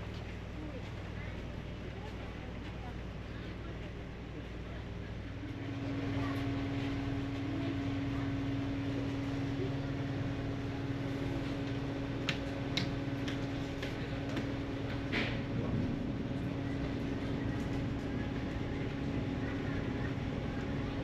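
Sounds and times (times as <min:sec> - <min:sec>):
mechanical hum with low rumble: 0:00.0 - 0:21.0.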